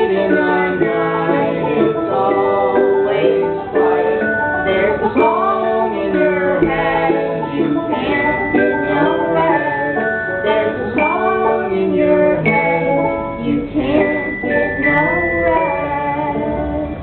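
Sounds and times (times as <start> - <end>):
person singing: 0.0 - 17.0
sustained instrument notes: 0.0 - 17.0.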